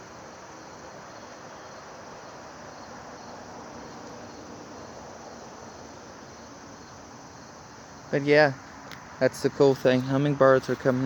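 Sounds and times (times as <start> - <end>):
insects singing: 0.0 - 11.0.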